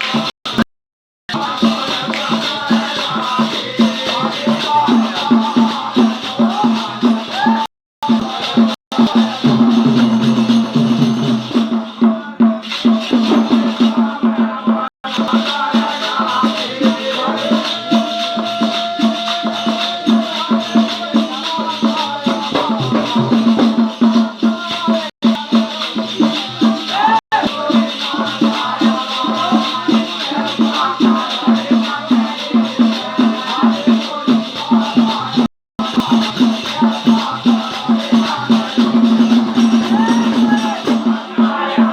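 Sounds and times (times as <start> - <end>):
shaker-like rattling beat: 0.0 - 0.6, 1.3 - 41.9
voices singing: 1.3 - 41.9.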